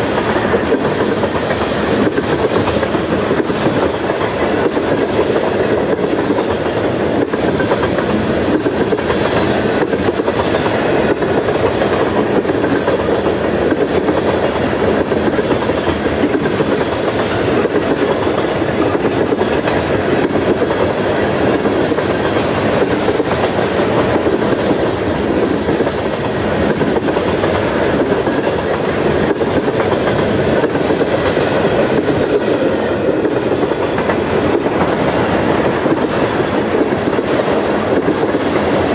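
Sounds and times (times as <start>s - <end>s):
train wheels rolling on rail: 0.0s - 38.9s.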